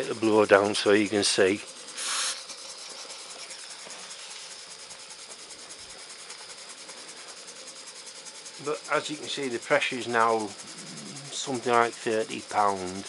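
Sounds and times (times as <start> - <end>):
steam engine chuffing with hiss: 0.0 - 13.0.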